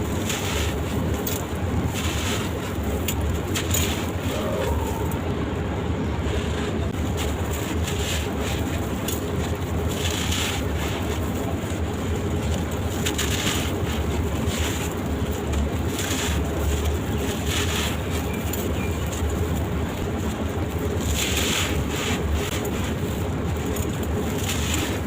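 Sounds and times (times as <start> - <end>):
sand-cement crumbling and crunching: 0.0 - 25.0
steady low rumble: 0.0 - 25.0.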